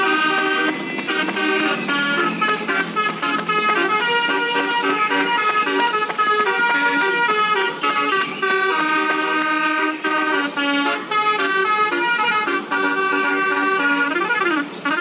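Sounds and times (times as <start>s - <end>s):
multi-tone musical bus horn: 0.0s - 15.0s.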